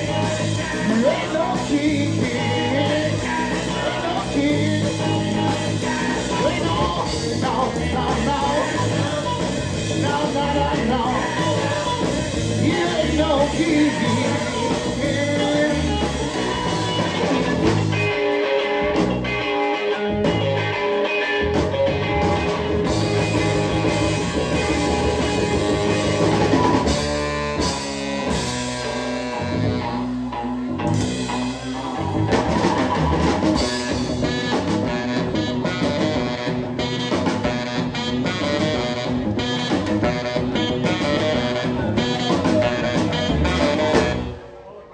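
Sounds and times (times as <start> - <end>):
rock band playing: 0.0 - 44.9
saxophone: 0.0 - 44.9.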